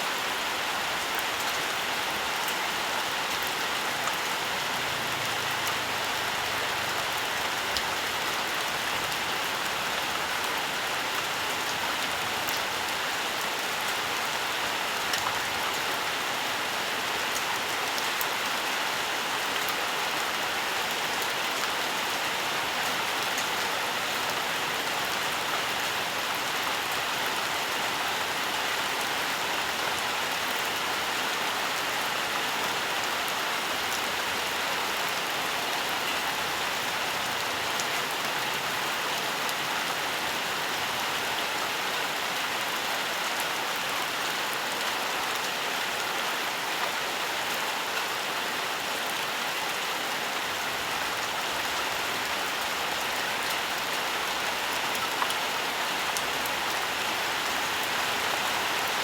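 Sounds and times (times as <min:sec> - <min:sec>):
rain on leaves and ground: 0:00.0 - 0:59.0.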